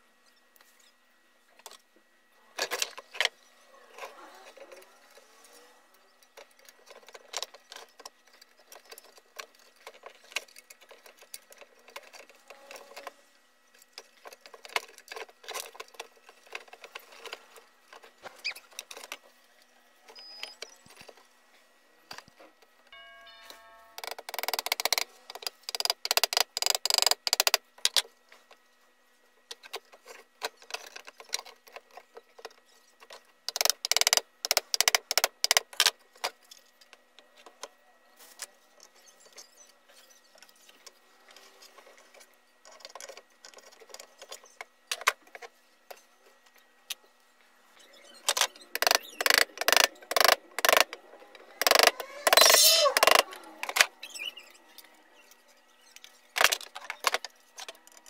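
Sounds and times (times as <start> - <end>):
handling of parts: 2.6 - 58.0.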